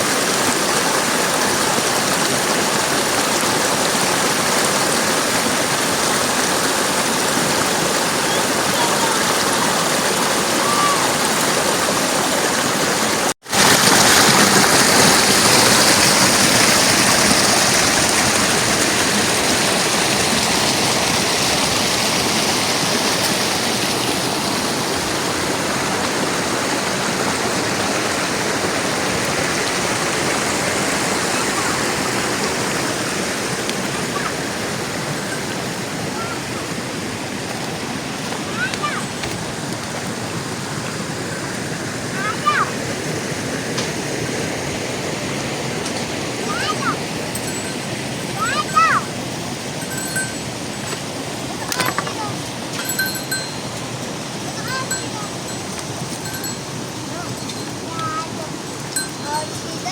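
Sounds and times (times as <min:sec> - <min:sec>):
rushing water of a stream: 0:00.0 - 0:59.9.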